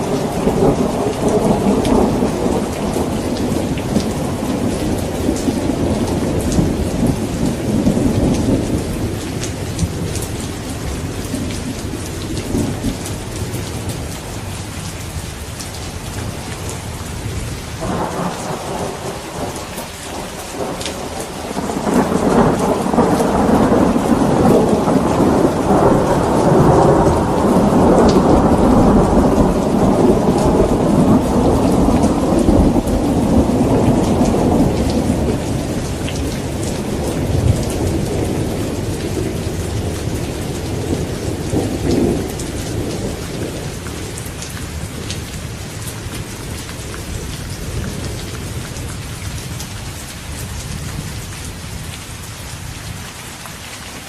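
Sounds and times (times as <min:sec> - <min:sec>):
thunder rumbling: 0:00.0 - 0:14.5, 0:16.2 - 0:48.6
raindrops ticking: 0:00.0 - 0:54.0
steady rain: 0:00.0 - 0:54.0.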